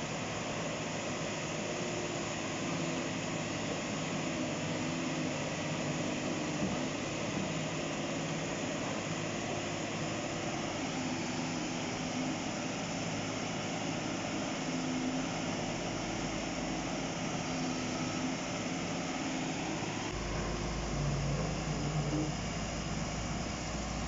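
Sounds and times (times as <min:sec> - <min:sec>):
excavator diesel engine under load: 0:00.1 - 0:24.0.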